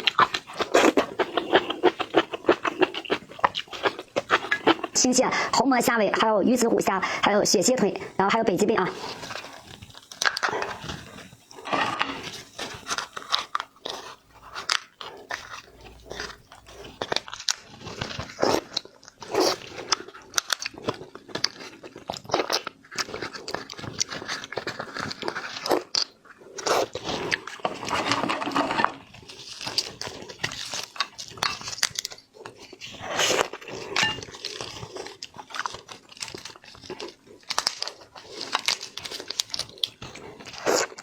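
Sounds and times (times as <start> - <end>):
shellfish crunching: 0.0 - 41.0
wet chewing: 0.0 - 41.0.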